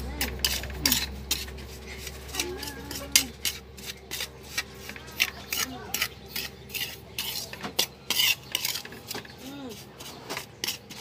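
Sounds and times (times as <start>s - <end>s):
metal spoon scraping in wok: 0.0s - 11.0s.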